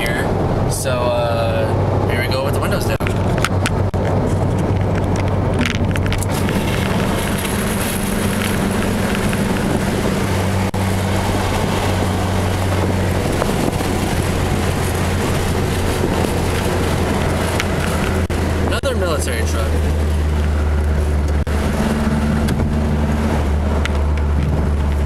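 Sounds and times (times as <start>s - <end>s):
low exhaust hum: 0.0s - 25.0s
road and wind noise: 0.0s - 25.0s.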